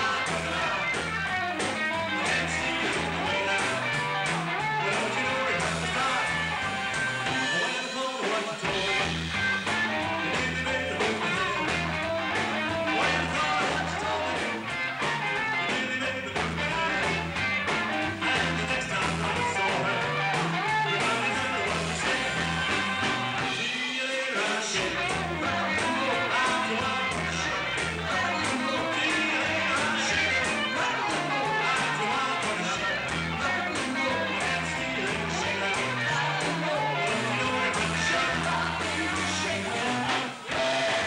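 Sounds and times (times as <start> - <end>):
walking bass line: 0.0 - 7.7, 8.6 - 23.7, 24.8 - 41.0
drums: 0.0 - 41.0
electric guitar: 0.0 - 41.0
live rock and roll band: 0.0 - 41.0.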